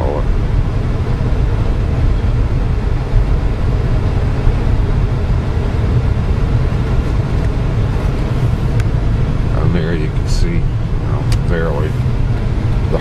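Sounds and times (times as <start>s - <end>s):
road and engine noise in car: 0.0s - 13.0s.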